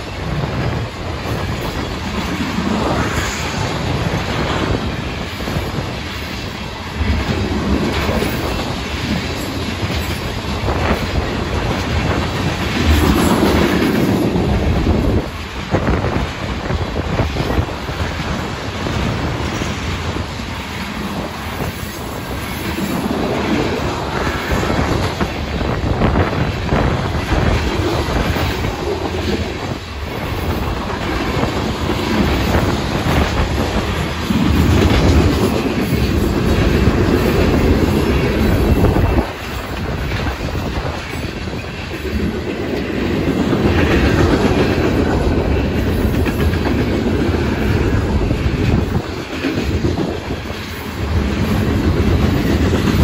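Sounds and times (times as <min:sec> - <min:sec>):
freight train rumbling past: 0:00.0 - 0:53.0
wheels clacking over rail joints: 0:04.2 - 0:53.0.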